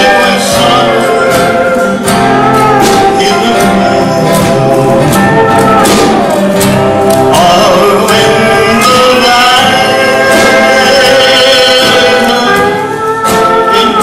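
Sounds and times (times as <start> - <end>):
acoustic guitar: 0.0 - 14.0
man singing into microphone: 0.0 - 14.0.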